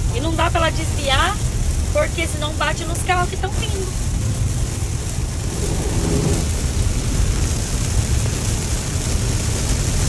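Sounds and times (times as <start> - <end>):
continuous low rumble: 0.0 - 10.0
heavy rain on car roof: 0.0 - 10.0.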